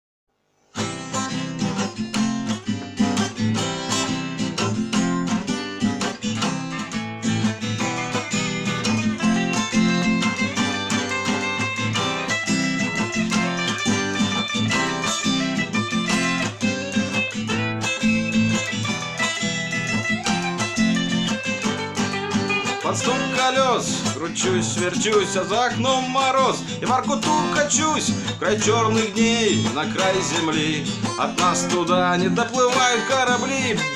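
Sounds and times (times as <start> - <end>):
strummed guitar: 0.5 - 33.9.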